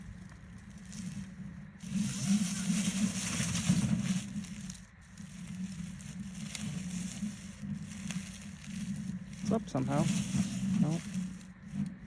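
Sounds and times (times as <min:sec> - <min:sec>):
dry leaves crunching under wheels: 0:00.0 - 0:12.0
low motor hum: 0:00.0 - 0:12.0.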